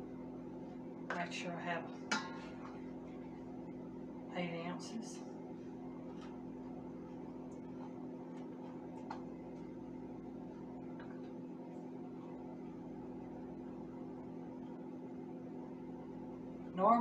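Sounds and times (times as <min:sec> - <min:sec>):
low appliance hum: 0:00.0 - 0:17.0.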